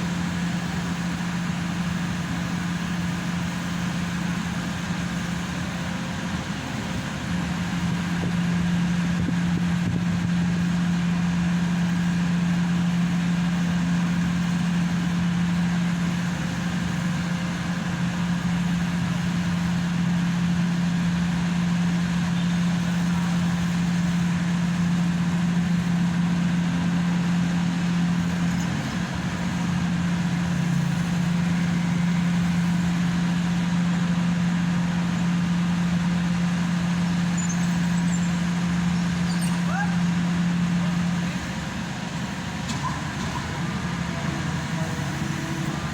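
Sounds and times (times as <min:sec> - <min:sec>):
pile driver engine humming: 0:00.0 - 0:45.9.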